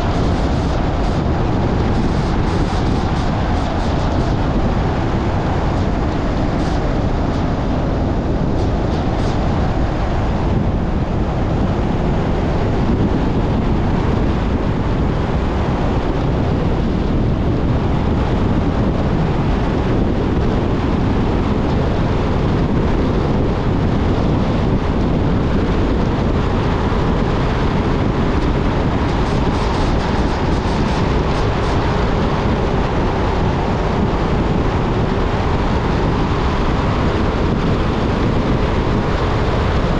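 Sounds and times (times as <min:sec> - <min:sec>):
road and tyre noise: 0:00.0 - 0:39.9
wind rushing past: 0:00.0 - 0:39.9.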